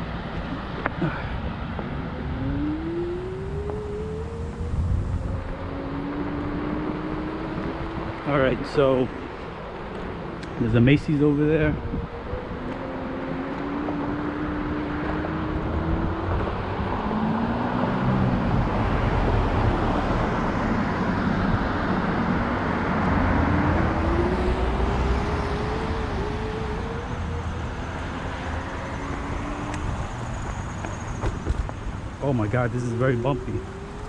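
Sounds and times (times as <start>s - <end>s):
cars passing: 0.0s - 34.0s
scooter wheels rumbling on sidewalk: 0.0s - 34.0s.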